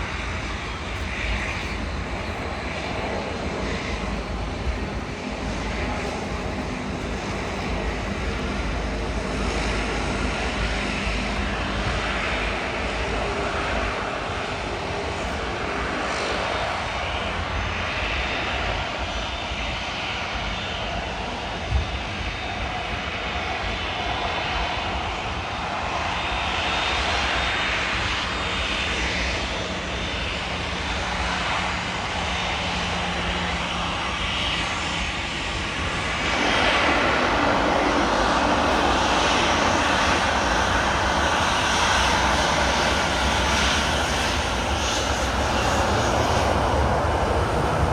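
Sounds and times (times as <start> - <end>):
jet engine rumble: 0.0 - 47.9.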